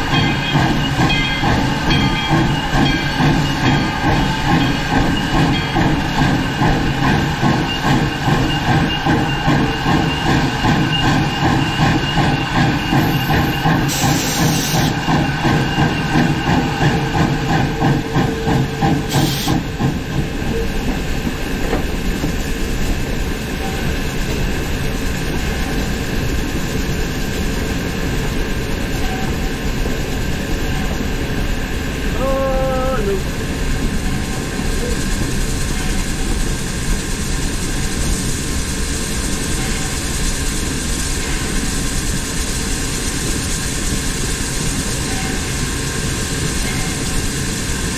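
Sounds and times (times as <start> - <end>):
locomotive rumble and hiss on rails: 0.0 - 47.9
steam locomotive exhaust chuffing: 0.0 - 47.9.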